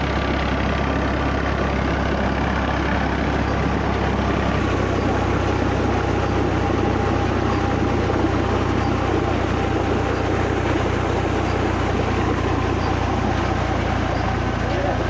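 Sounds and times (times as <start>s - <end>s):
diesel engine running: 0.0s - 15.0s
water gushing into a tank: 0.0s - 15.0s.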